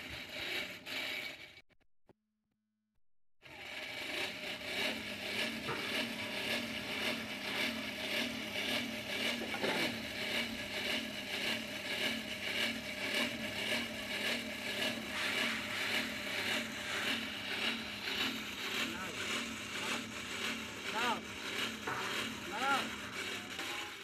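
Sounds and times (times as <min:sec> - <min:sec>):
scraping rub: 0:00.0 - 0:01.6, 0:03.7 - 0:24.0
forge blower whirring: 0:03.4 - 0:24.0.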